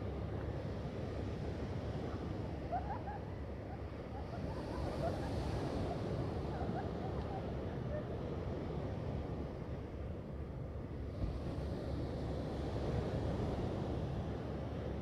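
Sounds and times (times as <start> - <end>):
distant ocean surf: 0.0 - 15.0
wind: 0.0 - 15.0.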